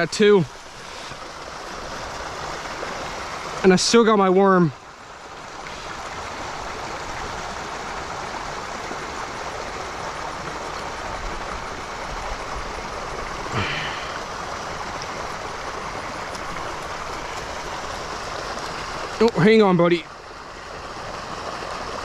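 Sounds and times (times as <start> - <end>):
water running in a creek: 0.0 - 22.0.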